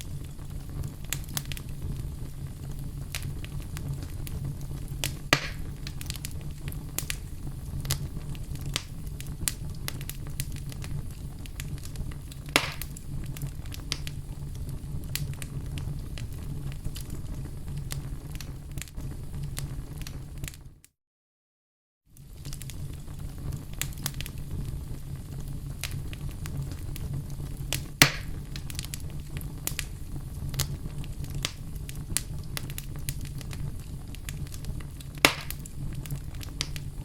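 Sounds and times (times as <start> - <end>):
fire crackling in a fireplace: 0.0 - 20.9, 22.0 - 37.0.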